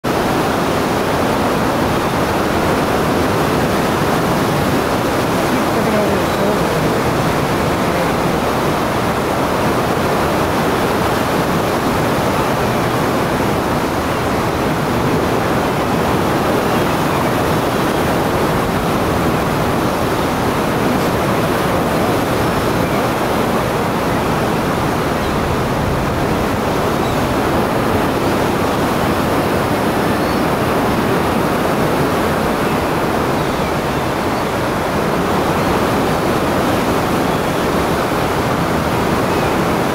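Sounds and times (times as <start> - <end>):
roar of rushing river: 0.0 - 39.9.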